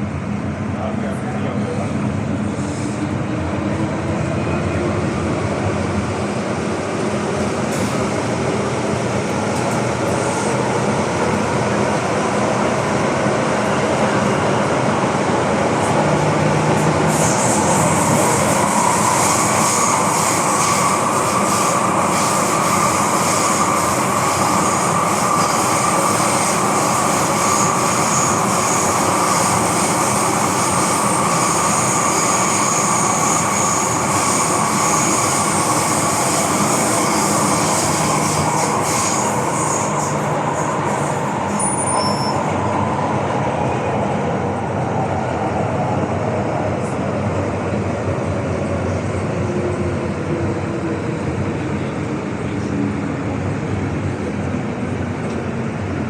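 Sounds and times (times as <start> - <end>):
train wheels on rail: 0.0 - 56.0.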